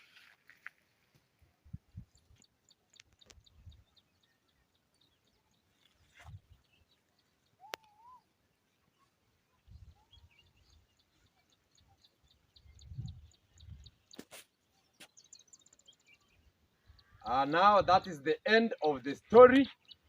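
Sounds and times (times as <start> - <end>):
bird chirping: 0.8 - 20.0.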